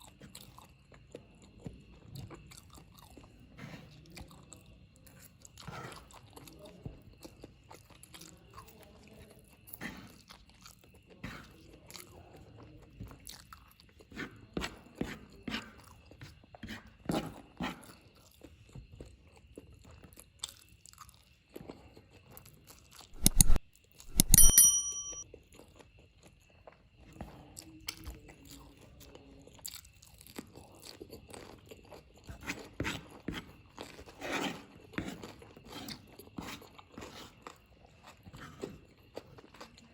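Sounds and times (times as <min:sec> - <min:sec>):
chewing crunchy noodles: 0:00.0 - 0:23.2, 0:25.3 - 0:39.9.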